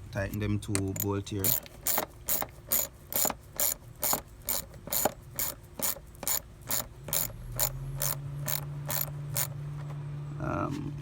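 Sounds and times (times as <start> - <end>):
ratchet wrench ratcheting: 0.2 - 9.6.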